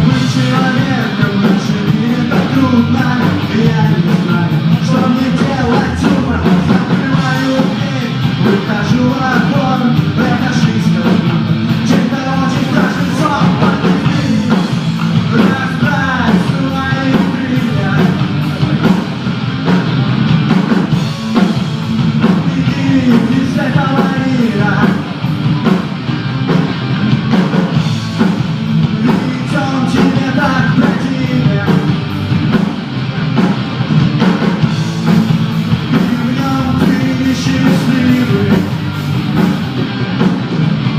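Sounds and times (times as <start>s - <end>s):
rock song with singing: 0.0s - 40.9s.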